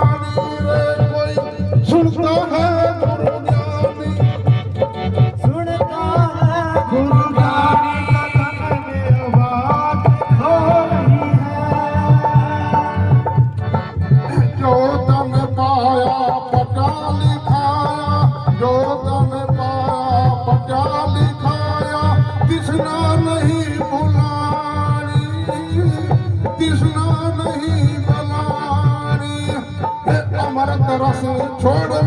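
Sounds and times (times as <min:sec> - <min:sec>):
hand drum rhythm: 0:00.0 - 0:32.0.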